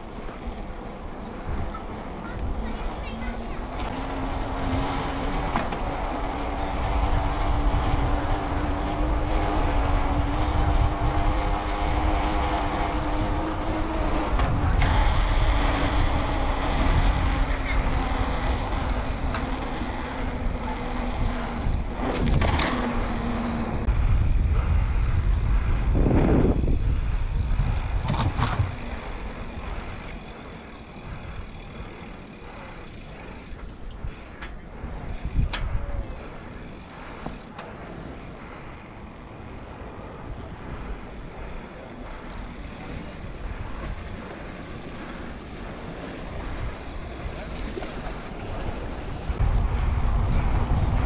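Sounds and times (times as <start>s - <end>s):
bike tyres on paving: 0.0s - 51.0s
steady hum: 0.0s - 51.0s
wind rumble: 0.0s - 51.0s.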